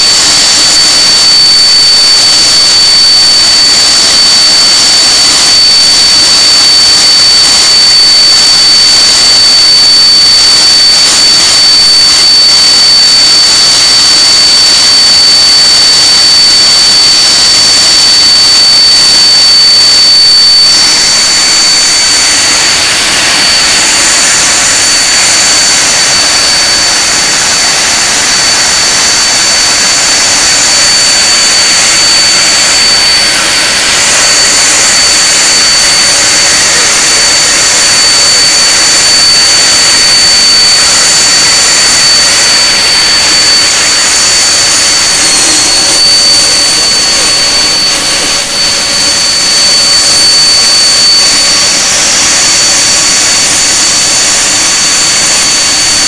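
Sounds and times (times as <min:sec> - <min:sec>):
high engine whine: 0:00.0 - 0:56.0
jet engine roar: 0:00.0 - 0:56.0.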